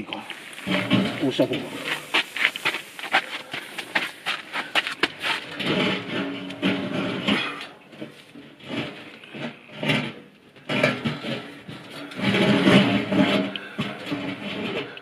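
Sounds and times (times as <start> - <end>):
metal stove scraping on gravel: 0.0 - 15.0.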